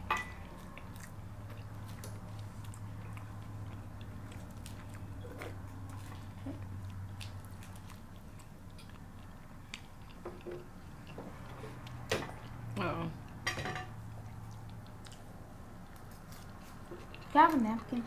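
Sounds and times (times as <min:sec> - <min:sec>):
steady low hum: 0:00.0 - 0:18.0
chewing and biting: 0:00.2 - 0:18.0.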